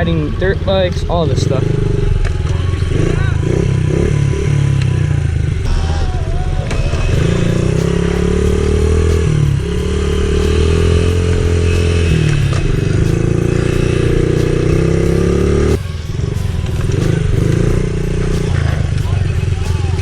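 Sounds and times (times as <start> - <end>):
pit bike engine running hard: 0.0 - 20.0.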